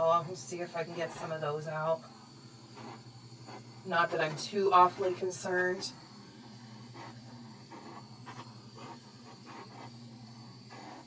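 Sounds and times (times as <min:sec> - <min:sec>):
handheld torch hissing: 0:00.0 - 0:11.0.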